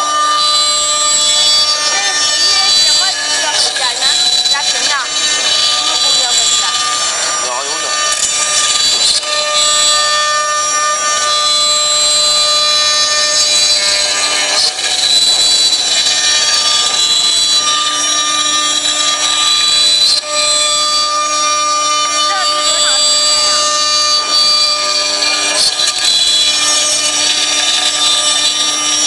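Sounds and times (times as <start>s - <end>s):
bit cutting into wood: 0.0s - 29.0s
router spindle whine: 0.0s - 29.0s.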